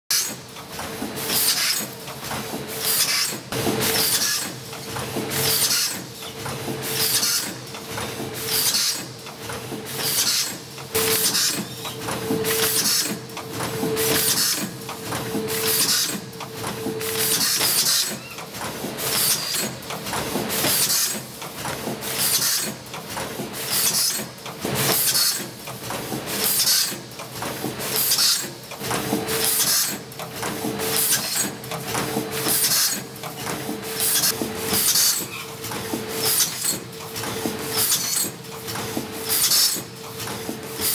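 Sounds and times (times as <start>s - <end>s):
packing machine running: 0.2s - 40.9s.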